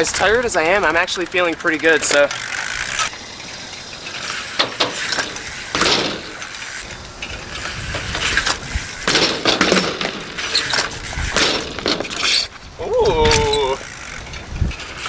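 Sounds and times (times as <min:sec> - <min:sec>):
bike clattering and clicking: 0:00.0 - 0:15.0.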